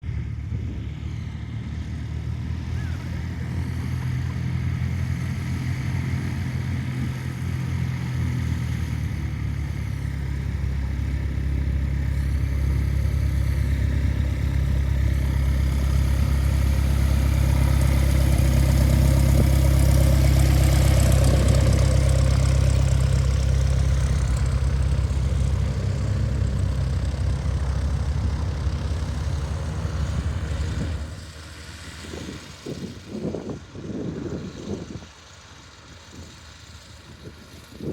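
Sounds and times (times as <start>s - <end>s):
propeller aircraft engine: 0.0s - 37.9s.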